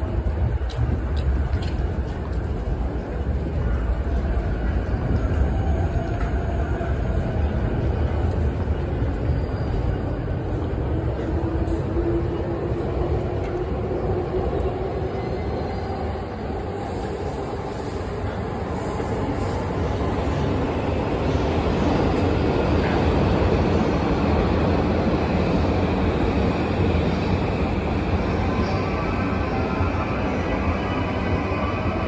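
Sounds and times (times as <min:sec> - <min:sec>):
busy station noise: 0:00.0 - 0:32.0
train rumbling overhead: 0:00.0 - 0:32.0.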